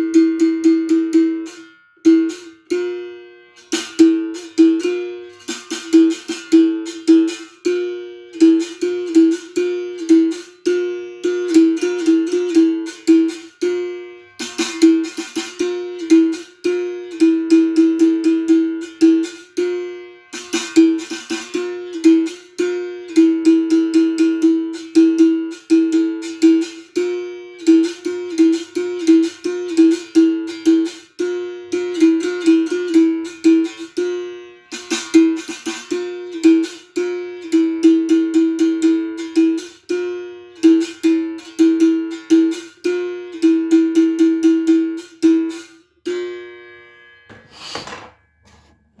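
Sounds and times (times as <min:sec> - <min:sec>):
musical bow struck rhythmically: 0:00.0 - 0:47.5.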